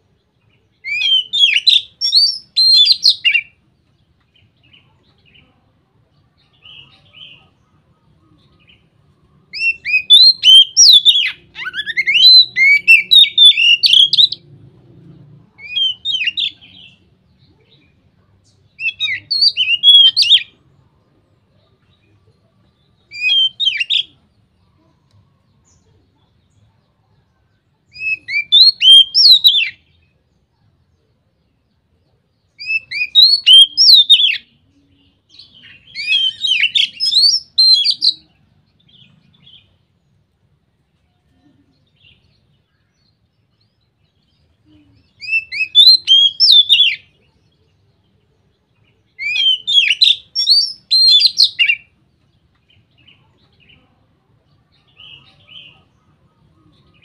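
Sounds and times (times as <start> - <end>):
magpie-robin singing: 0.1 - 14.6, 15.5 - 20.7, 21.4 - 40.4, 41.2 - 57.0.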